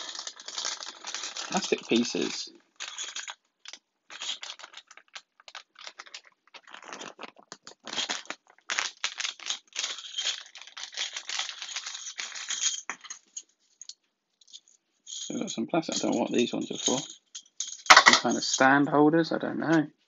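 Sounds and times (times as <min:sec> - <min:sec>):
plastic bag crinkling: 0:00.0 - 0:18.6
plastic game pieces rattling: 0:00.0 - 0:18.6.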